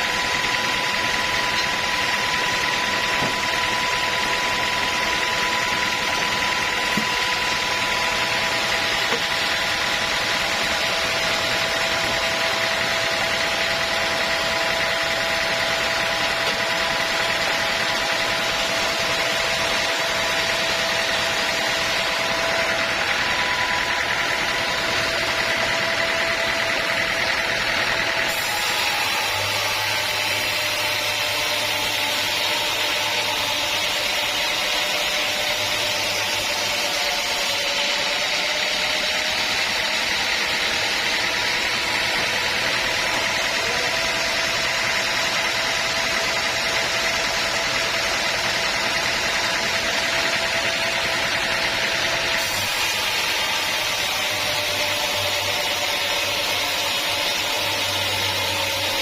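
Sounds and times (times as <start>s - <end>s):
sawmill saw whining: 0.0s - 59.0s.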